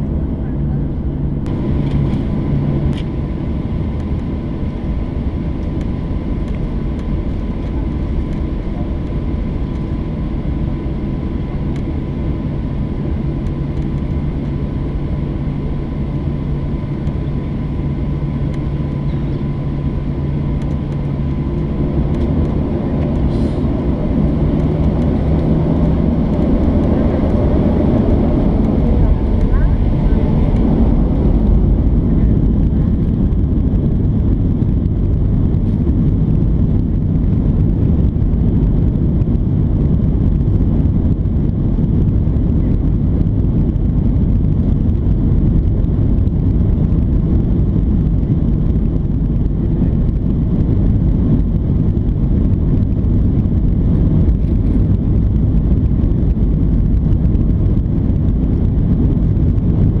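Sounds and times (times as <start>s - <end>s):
jet engines low rumble: 0.0s - 60.0s.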